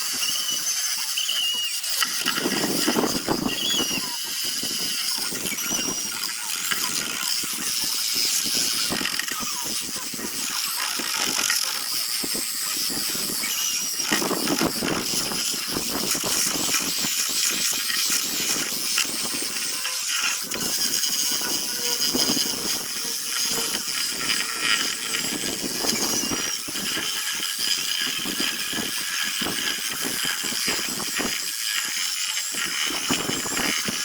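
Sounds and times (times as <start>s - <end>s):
power sander grinding wood: 0.0s - 34.0s.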